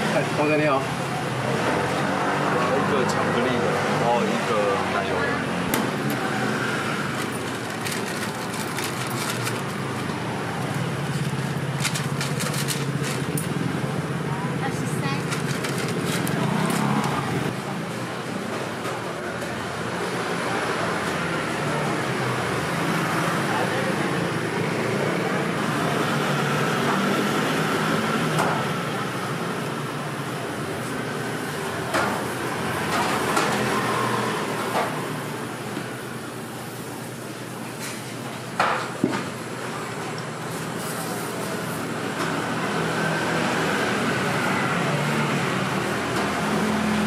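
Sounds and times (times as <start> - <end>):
traffic hum: 0.0 - 47.0.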